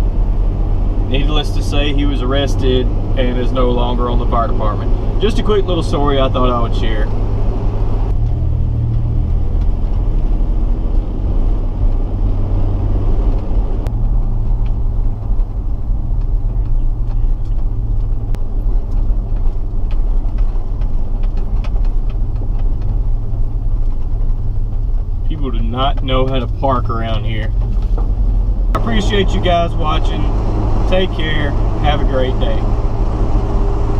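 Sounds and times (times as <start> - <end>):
road noise: 0.0 - 33.9
truck engine rumble: 0.0 - 33.9.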